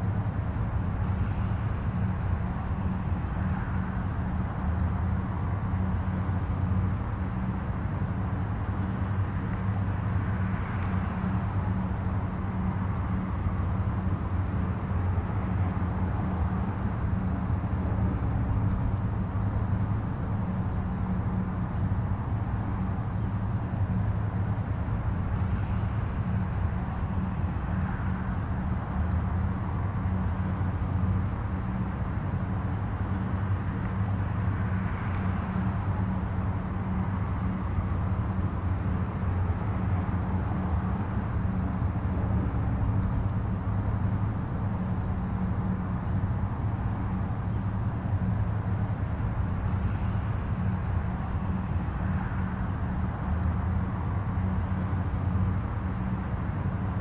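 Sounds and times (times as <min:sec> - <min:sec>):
distant highway traffic: 0:00.0 - 0:57.0
vehicles passing: 0:00.0 - 0:57.0.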